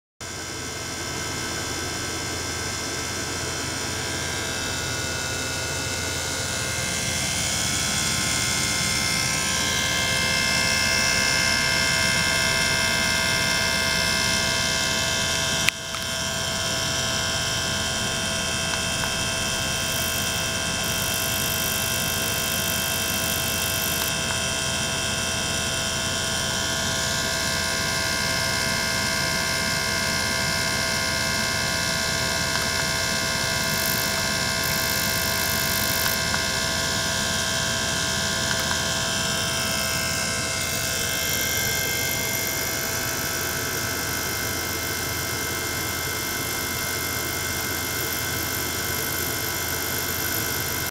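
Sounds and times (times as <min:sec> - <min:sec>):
electric pump motor drone: 0:00.2 - 0:50.9.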